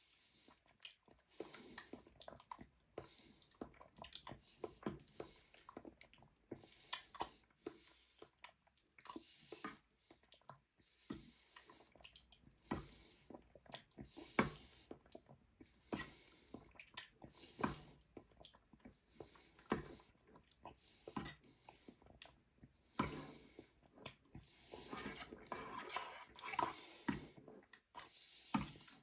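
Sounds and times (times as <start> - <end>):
wet eating sounds: 0.3 - 29.0.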